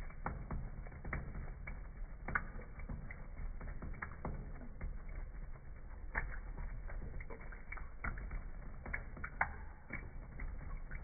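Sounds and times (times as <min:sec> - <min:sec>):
cat lapping water: 0:00.0 - 0:11.0
faucet water into metal sink: 0:00.0 - 0:11.0.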